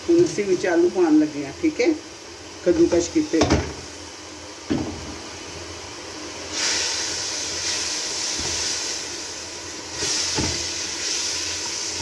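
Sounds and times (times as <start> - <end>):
potatoes sizzling in hot oil: 0.1 - 12.0.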